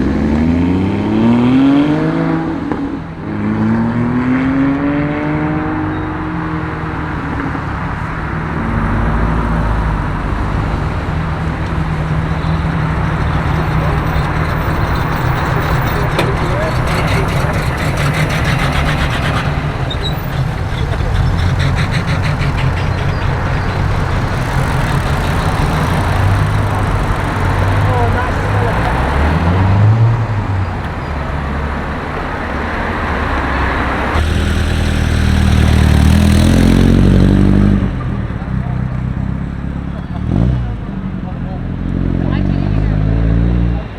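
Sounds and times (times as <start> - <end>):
traffic noise: 0.0 - 43.9
car engine running: 6.3 - 43.0.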